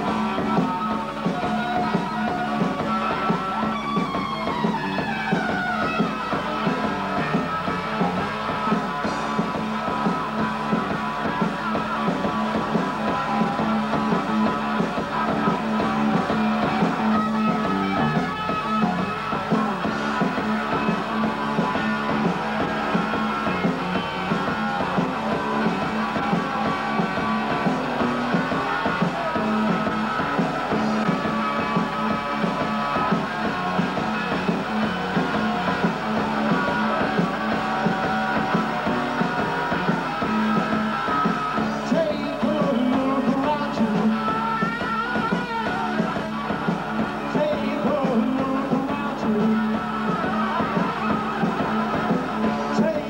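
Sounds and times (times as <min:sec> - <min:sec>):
drum kit: 0:00.0 - 0:53.0
electric guitar: 0:00.0 - 0:53.0.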